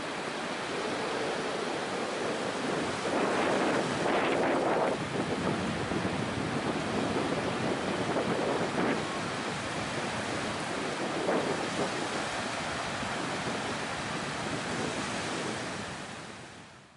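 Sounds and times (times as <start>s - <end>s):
surf washing up a beach: 0.0s - 16.9s
wind buffeting microphone: 0.1s - 16.6s.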